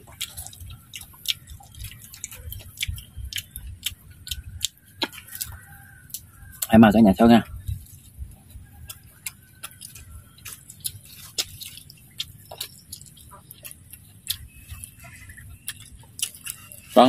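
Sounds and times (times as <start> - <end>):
person chewing crispy food: 0.0 - 6.8, 7.4 - 17.0.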